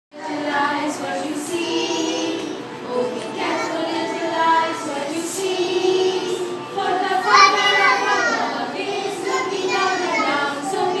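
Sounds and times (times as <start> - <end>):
children singing together: 0.2 - 11.0.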